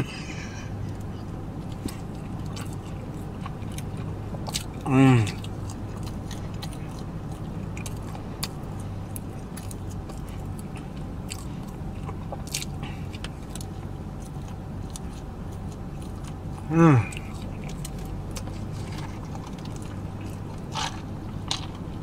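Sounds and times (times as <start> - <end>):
low hum: 0.0 - 22.0
chewing and lip-smacking: 0.7 - 22.0.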